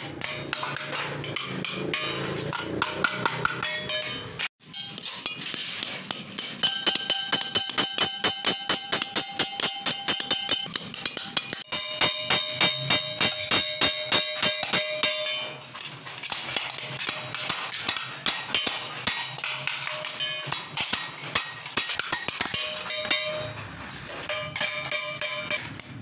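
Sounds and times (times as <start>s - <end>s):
hammer striking ringing metal: 0.0s - 15.7s, 16.5s - 26.0s.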